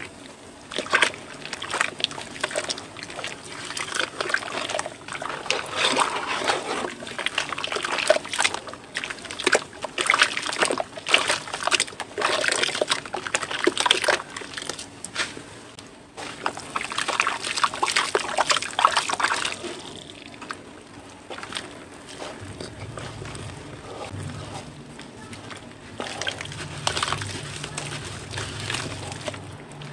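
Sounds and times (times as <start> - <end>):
water sloshing and splashing in bowl: 0.0 - 15.4, 16.1 - 29.9.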